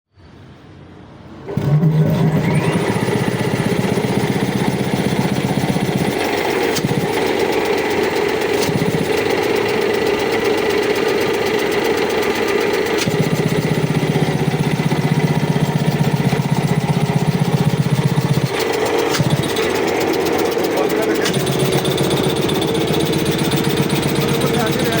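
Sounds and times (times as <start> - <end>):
air compressor running: 1.4 - 25.0.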